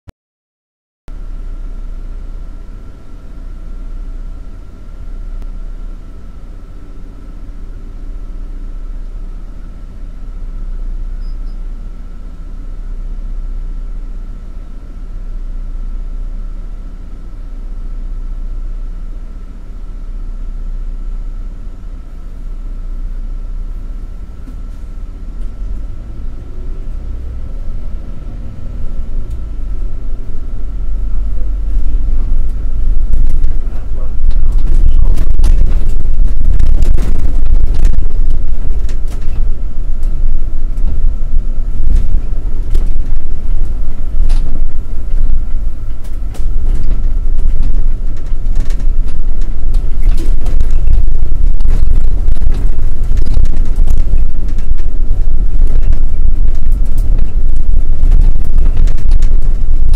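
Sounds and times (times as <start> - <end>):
bus engine idling: 1.1 - 59.9
faint constant whine: 1.1 - 59.9.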